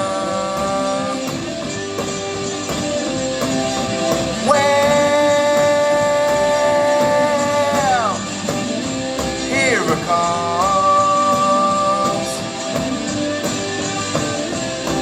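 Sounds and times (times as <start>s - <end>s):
person singing: 0.0s - 2.4s, 3.7s - 13.4s
electric guitar: 0.0s - 15.0s
live rock band playing: 0.0s - 15.0s.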